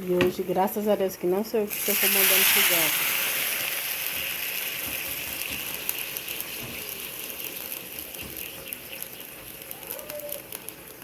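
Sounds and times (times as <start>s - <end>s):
food sizzling in hot oil: 1.5s - 11.0s.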